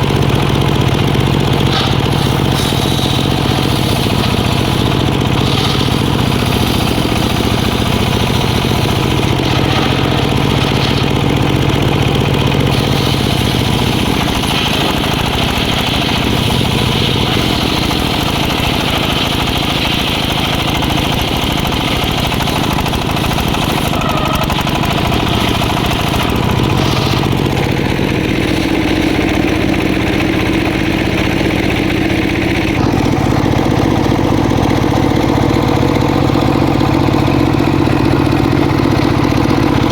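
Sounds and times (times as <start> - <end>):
circular sawmill engine running: 0.0 - 39.9.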